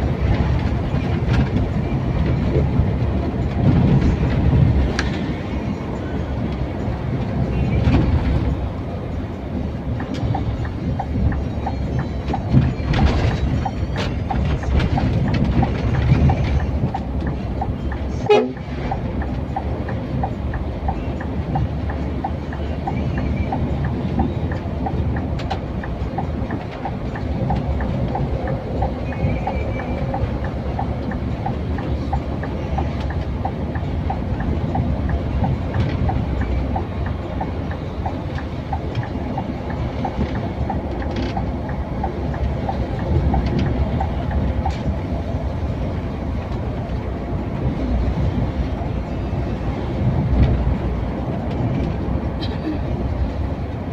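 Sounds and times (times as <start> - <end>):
coach engine and road rumble: 0.0 - 53.9.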